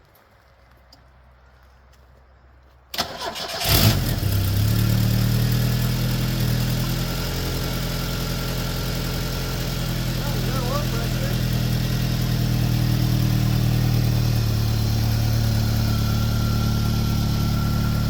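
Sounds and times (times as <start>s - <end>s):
car engine cranking and idling: 2.9s - 18.0s.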